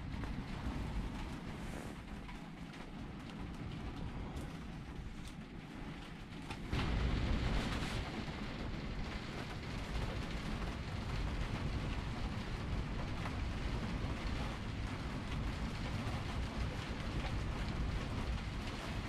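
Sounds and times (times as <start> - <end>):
deep continuous rumble: 0.0 - 19.0
heavy rain drumming on roof: 0.0 - 19.0.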